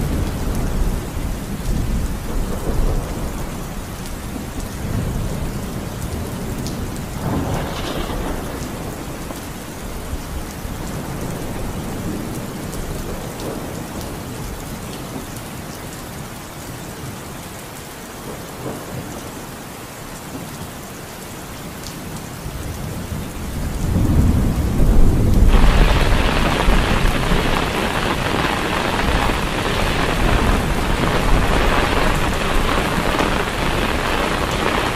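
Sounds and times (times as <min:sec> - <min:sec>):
heavy rain pouring on water: 0:00.0 - 0:34.9.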